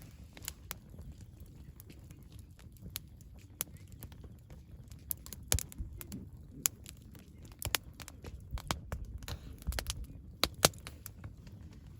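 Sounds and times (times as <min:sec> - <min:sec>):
campfire crackling and popping: 0:00.0 - 0:11.9.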